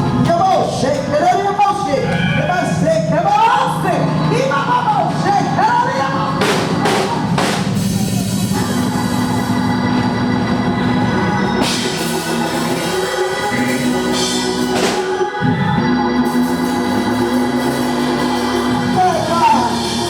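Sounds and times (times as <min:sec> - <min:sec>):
organ playing held chords: 0:00.0 - 0:20.0.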